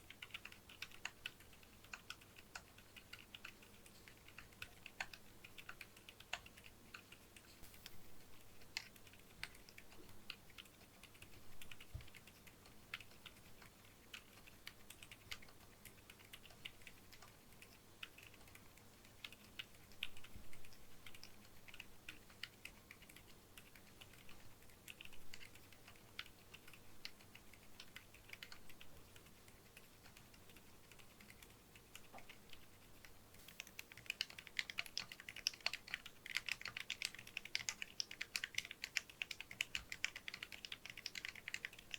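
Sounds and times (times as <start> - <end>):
keyboard typing: 0.0 - 7.7, 8.3 - 41.9.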